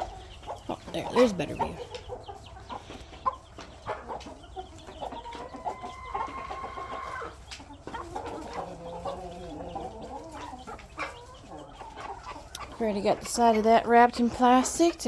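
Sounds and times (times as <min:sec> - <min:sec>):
hens clucking and calling: 0:00.0 - 0:15.0.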